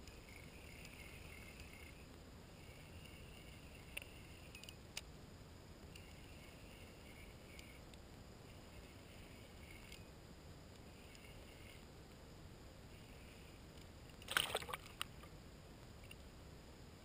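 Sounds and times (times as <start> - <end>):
faint high-pitched buzz: 0.0 - 17.0
faint outdoor ambience: 0.0 - 17.0.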